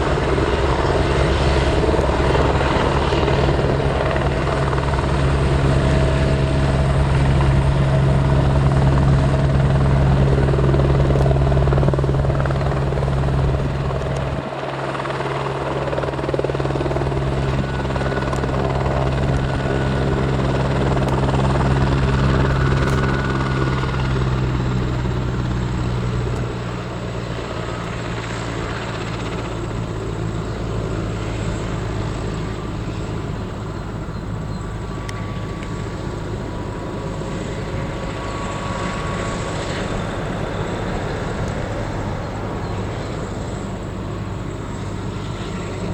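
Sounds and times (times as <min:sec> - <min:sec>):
helicopter running: 0:00.0 - 0:45.9.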